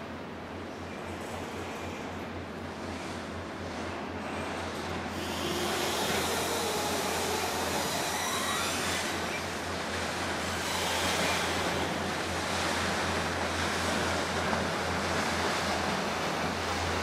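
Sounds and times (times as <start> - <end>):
river water sloshing: 1.0 - 17.0.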